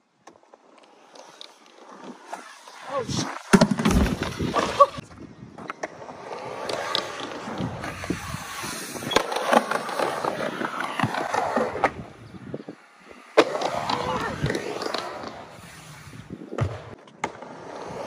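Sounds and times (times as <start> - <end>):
skateboard wheels rolling on ramp: 0.0 - 18.0
skateboard impacts: 0.2 - 15.8, 16.4 - 18.0.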